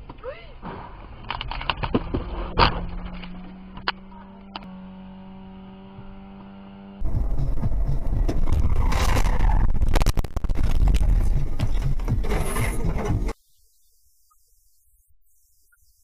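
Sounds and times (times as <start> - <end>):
road and engine rumble: 0.0 - 13.4.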